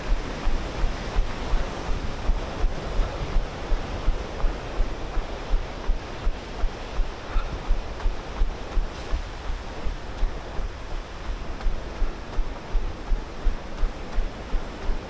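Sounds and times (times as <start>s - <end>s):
fast river rushing: 0.0s - 15.0s
wind on microphone: 0.0s - 15.0s.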